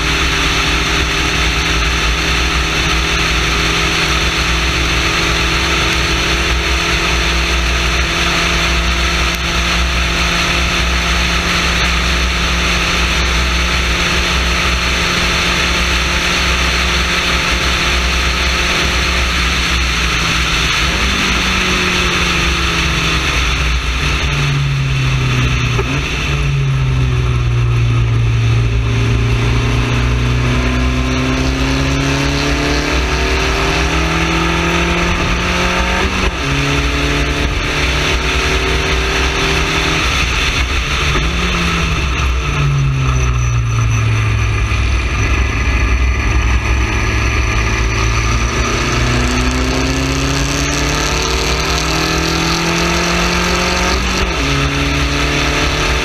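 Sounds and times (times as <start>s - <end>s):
racing car engine revving: 0.0s - 56.0s
wind and road noise: 0.0s - 56.0s.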